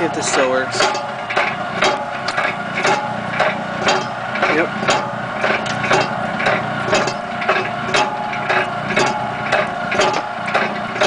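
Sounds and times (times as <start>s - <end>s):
gearing clacking: 0.0s - 11.0s
washing machine motor hum: 0.0s - 11.0s.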